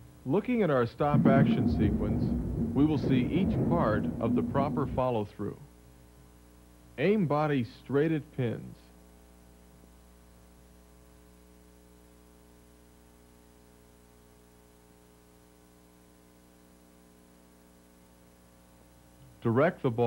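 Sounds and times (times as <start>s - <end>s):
faint mains hum: 0.0s - 20.0s
tape hiss: 0.0s - 20.0s.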